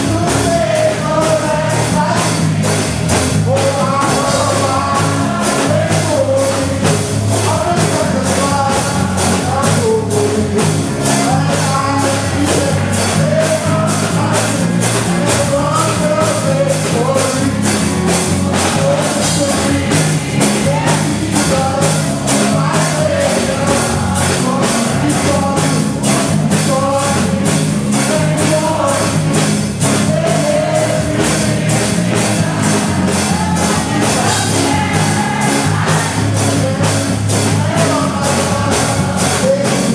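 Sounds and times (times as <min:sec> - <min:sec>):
gospel singing over a band: 0:00.0 - 0:39.9
steady drum beat: 0:00.0 - 0:39.9.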